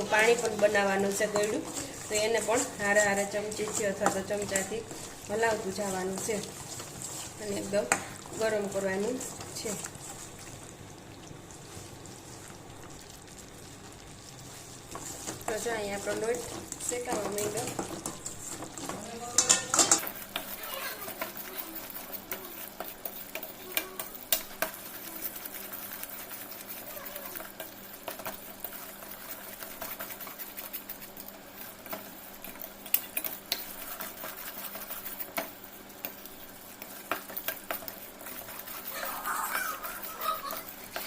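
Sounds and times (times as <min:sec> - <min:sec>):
spoon scraping flour in a pan: 0:00.0 - 0:10.5, 0:14.4 - 0:41.0
faint sizzle: 0:00.0 - 0:41.0.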